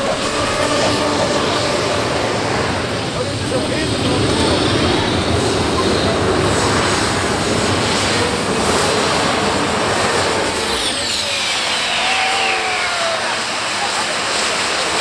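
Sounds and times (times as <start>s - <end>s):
high-pitched whine: 0.0s - 15.0s
tractor engine at full power: 0.0s - 15.0s.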